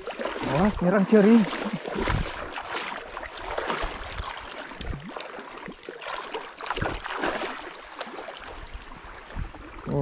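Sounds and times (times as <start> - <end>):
fish thrashing in water: 0.0 - 9.2.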